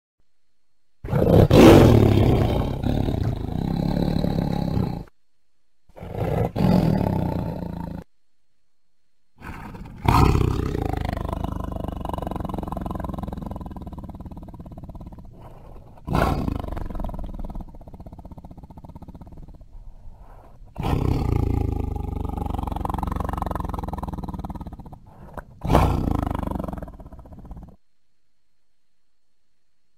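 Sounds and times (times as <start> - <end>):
tiger roaring: 1.0 - 5.1, 5.9 - 8.1, 9.4 - 27.8.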